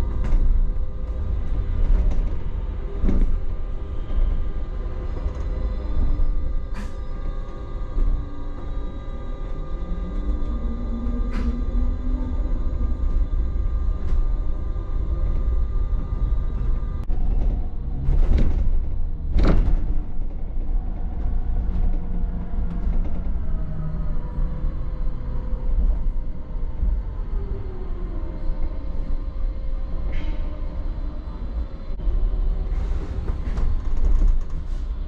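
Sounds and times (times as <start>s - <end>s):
bus body and tyres rumbling: 0.0s - 35.0s.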